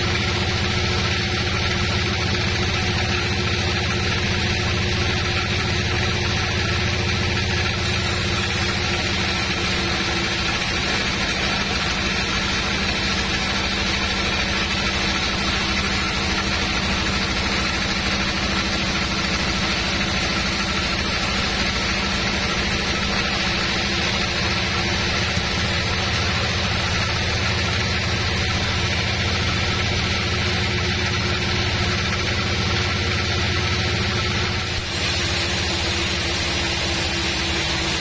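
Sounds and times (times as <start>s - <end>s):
band saw cutting log: 0.0s - 38.0s.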